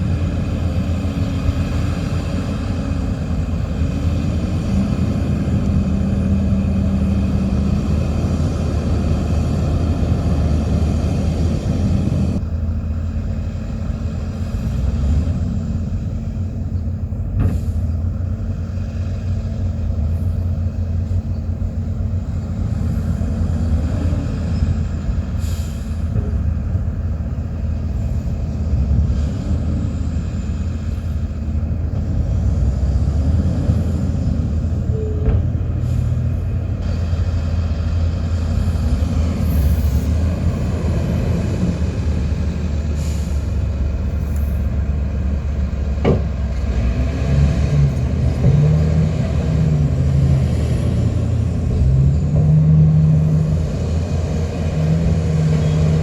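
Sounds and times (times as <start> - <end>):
heavy diesel machinery engine rumble: 0.0 - 56.0.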